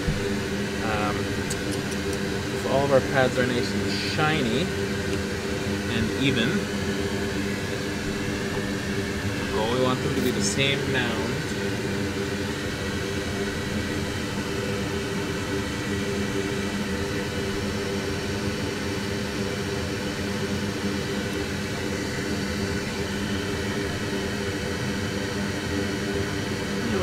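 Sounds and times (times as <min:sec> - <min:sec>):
fan whirring: 0:00.0 - 0:27.0.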